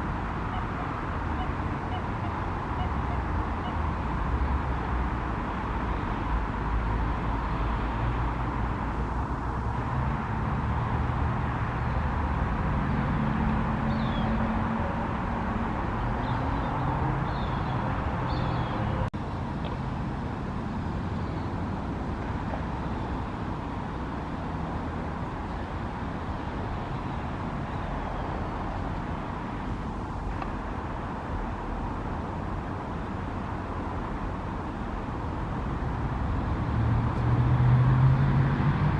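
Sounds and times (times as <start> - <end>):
traffic rumble: 0.0 - 38.9
vehicle engine hum: 0.0 - 38.9.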